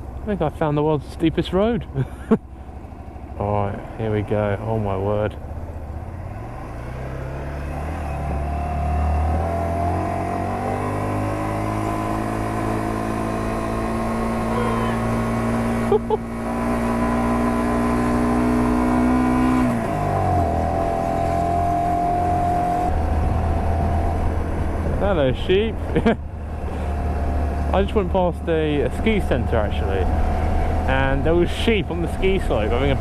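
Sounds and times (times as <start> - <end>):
motorcycle engine under load: 0.0 - 33.0.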